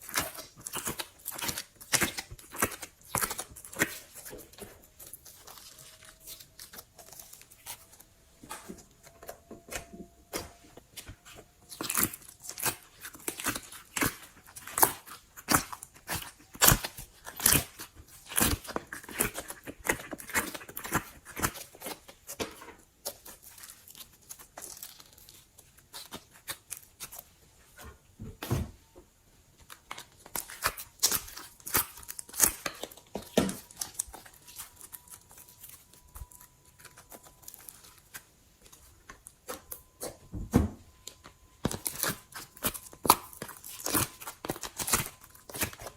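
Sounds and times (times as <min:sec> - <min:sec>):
slime squishing and popping: 0:00.0 - 0:27.2, 0:29.8 - 0:38.2, 0:41.0 - 0:45.9.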